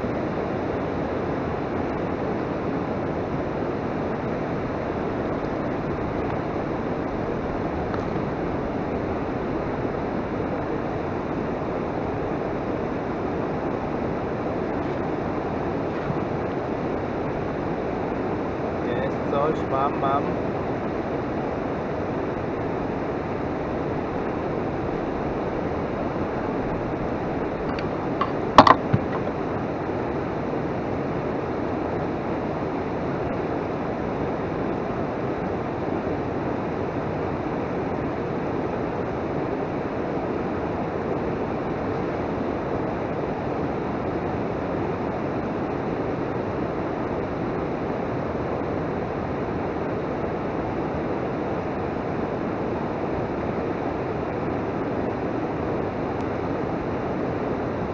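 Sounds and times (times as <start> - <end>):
river water rushing: 0.0 - 19.1, 20.0 - 57.9.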